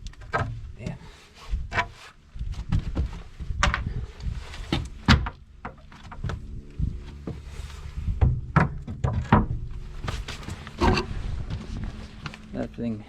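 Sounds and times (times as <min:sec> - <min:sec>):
low rumble: 0:00.0 - 0:13.0
knocks and scrapes on wood: 0:01.5 - 0:12.4.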